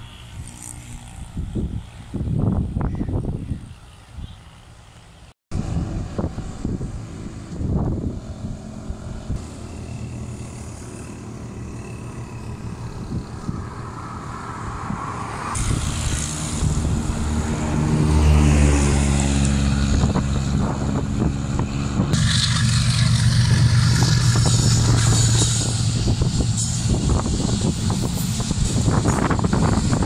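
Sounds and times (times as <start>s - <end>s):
locomotive engine drone: 0.0s - 30.0s.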